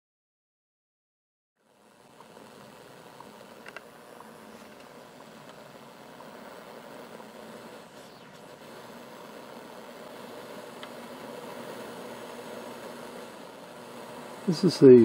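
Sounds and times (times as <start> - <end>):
faint steady hum: 1.6 - 15.0
radio receiver rushing hiss: 1.6 - 15.0.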